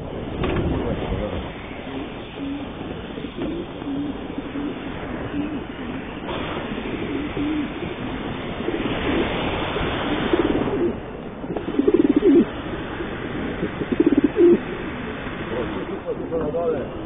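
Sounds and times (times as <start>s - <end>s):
pigeons cooing: 0.0s - 17.0s
steady hiss: 0.0s - 17.0s.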